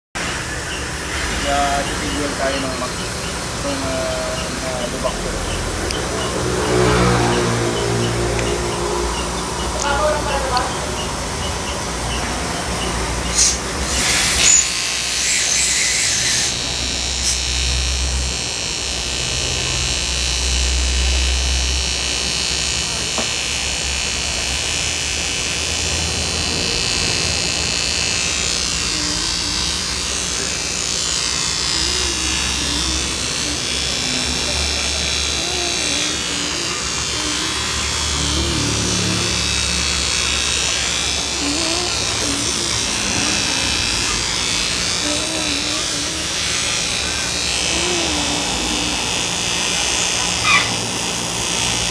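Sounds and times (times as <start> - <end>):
power tool whining: 0.2 - 51.9.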